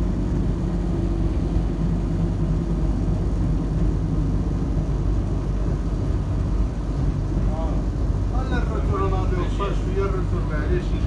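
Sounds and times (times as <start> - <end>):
tram rumble from inside: 0.0 - 11.0.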